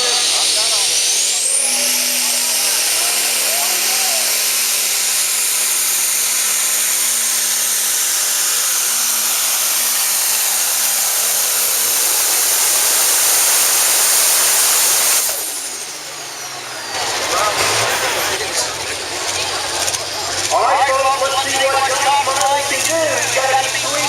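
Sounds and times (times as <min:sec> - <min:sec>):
diesel tractor engine: 0:00.0 - 0:24.0
turbo whine: 0:00.0 - 0:24.0.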